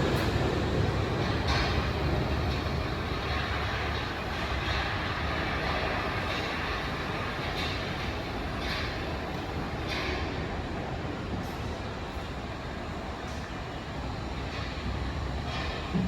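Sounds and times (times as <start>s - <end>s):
rumble of wheels on rail: 0.0s - 16.0s.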